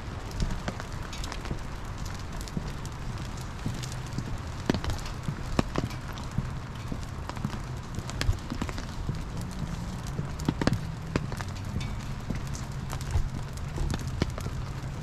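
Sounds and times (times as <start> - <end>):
steady low rumble: 0.0 - 15.0
footsteps on bridge deck: 0.4 - 15.0.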